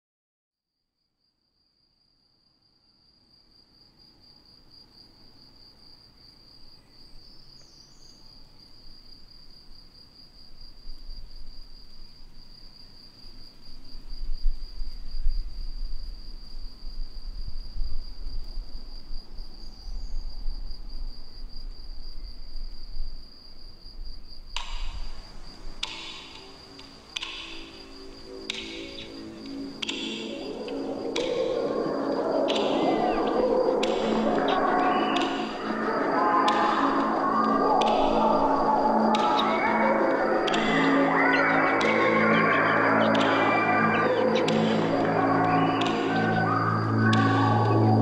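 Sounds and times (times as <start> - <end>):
cricket trilling: 3.5 - 48.0.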